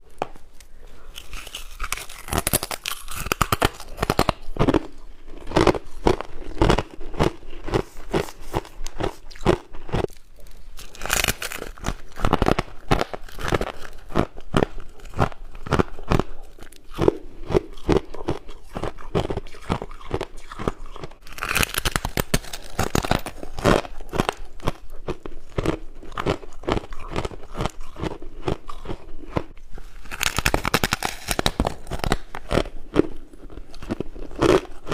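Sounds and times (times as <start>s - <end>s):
crunching chews: 0.2s - 34.9s.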